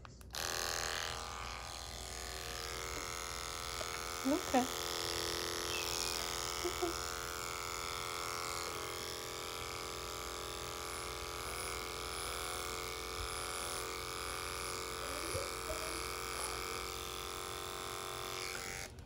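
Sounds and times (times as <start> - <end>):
electric clippers humming: 0.0 - 19.0.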